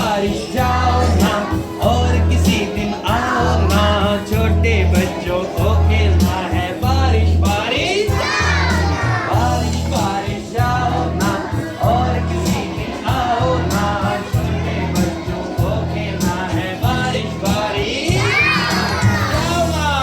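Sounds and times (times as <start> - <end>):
children's song sung: 0.0 - 20.0
upbeat backing music with bass beat: 0.0 - 20.0.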